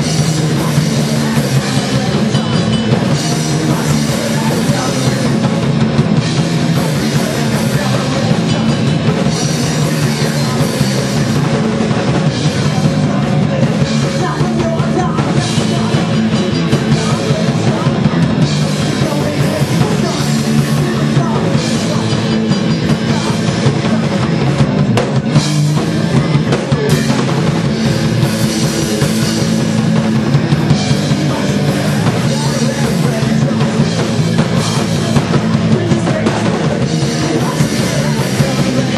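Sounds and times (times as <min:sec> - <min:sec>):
drum kit: 0:00.0 - 0:38.9
punk rock band playing live: 0:00.0 - 0:38.9.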